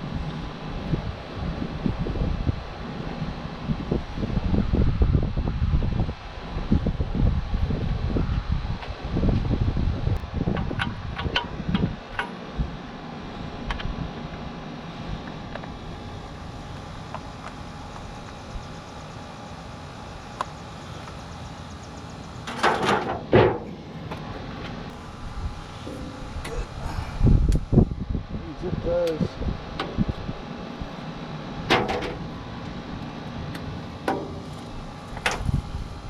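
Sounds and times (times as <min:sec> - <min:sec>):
background hum: 0:00.0 - 0:36.0.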